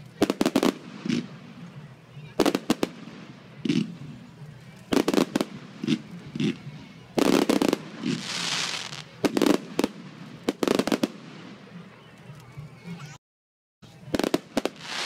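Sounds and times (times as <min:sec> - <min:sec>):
fireworks bursting with sharp bangs: 0:00.0 - 0:11.9, 0:14.0 - 0:15.0.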